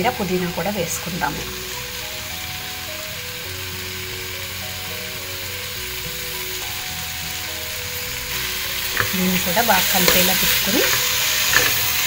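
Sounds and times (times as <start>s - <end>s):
masala sizzling in oil: 0.0s - 12.0s
soft background music: 0.0s - 12.0s.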